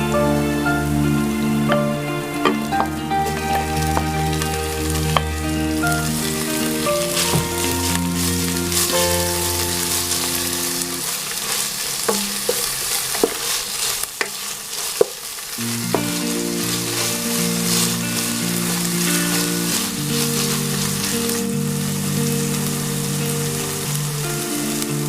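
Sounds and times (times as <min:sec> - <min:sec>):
background music: 0:00.0 - 0:11.6, 0:15.6 - 0:25.0
food sizzling in a pan: 0:00.0 - 0:25.0.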